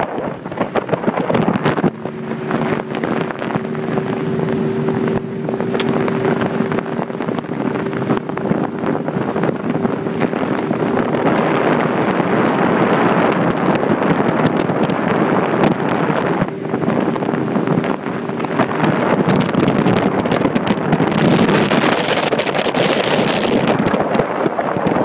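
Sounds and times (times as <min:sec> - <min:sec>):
speedboat engine drone: 0:00.0 - 0:25.0
wind buffeting microphone: 0:00.0 - 0:25.0.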